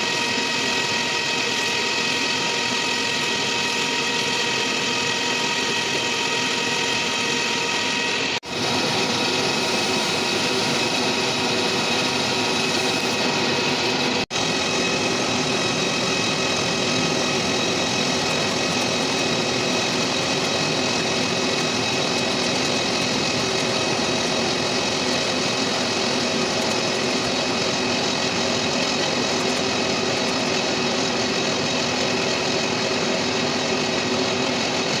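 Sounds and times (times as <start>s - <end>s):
machine tool running: 0.0s - 35.0s.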